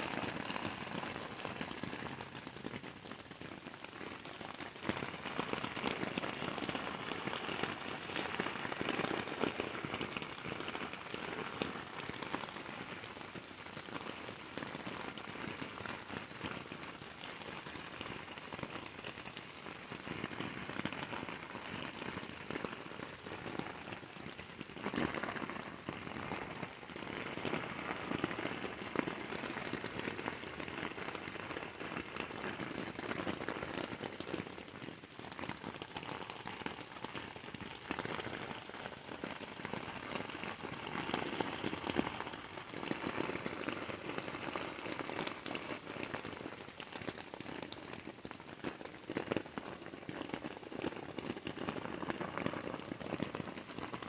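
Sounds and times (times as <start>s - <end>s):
rain pattering on tent fabric: 0.0s - 54.0s.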